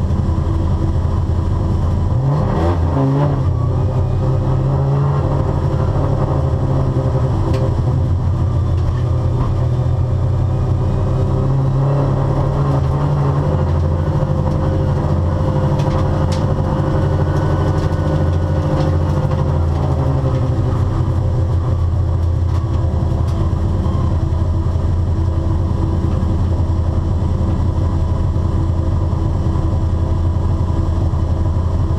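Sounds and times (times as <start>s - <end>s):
car engine running at low revs: 0.0s - 31.9s.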